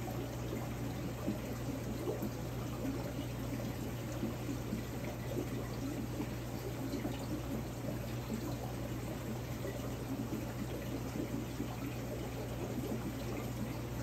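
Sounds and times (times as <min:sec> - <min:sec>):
aquarium water running and bubbling: 0:00.0 - 0:14.0.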